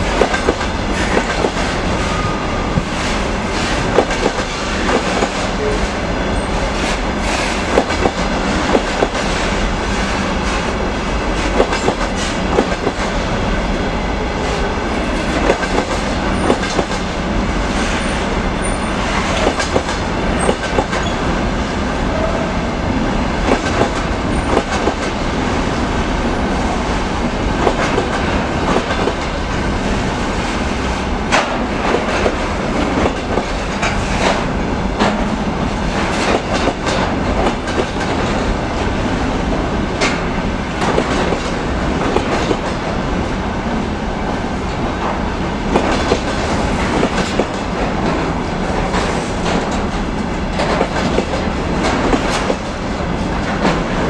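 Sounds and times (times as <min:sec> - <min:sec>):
train wheels clattering on rail joints: 0:00.0 - 0:13.3, 0:14.4 - 0:21.4, 0:23.4 - 0:25.4, 0:27.2 - 0:39.2, 0:39.9 - 0:43.2, 0:44.4 - 0:54.0.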